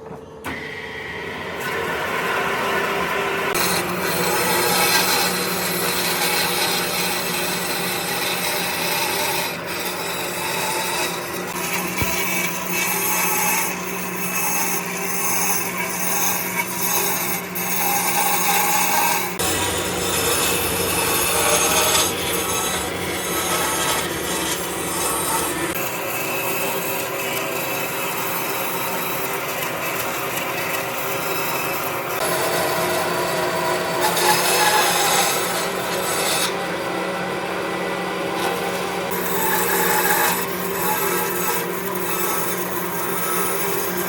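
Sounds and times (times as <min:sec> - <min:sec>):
power tool grinding wood: 0:01.6 - 0:44.0.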